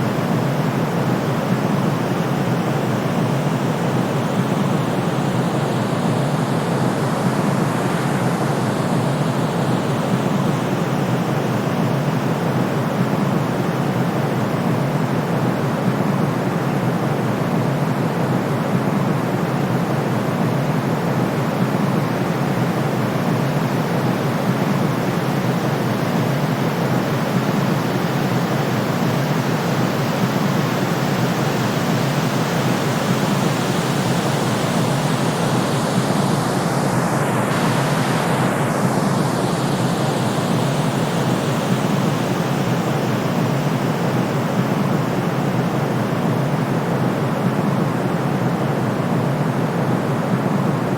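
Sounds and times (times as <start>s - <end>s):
steady white noise hiss: 0.0s - 50.9s.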